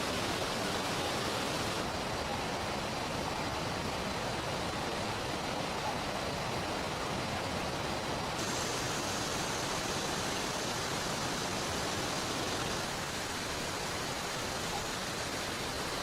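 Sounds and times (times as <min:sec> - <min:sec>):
flowing river: 0:00.0 - 0:16.0
heavy rain: 0:00.0 - 0:16.0.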